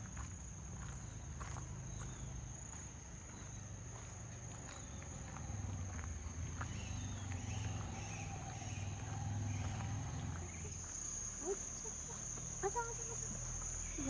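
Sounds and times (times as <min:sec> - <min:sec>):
footsteps on wet road: 0:00.0 - 0:13.8
insects droning: 0:00.0 - 0:14.0.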